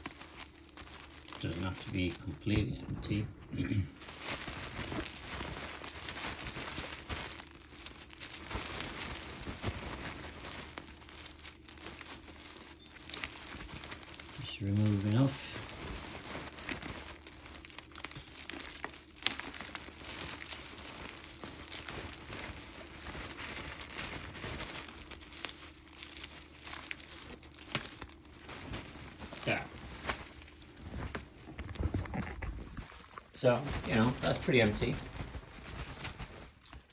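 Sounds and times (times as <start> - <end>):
cloth bag rustling and crinkling: 0.0 - 36.9.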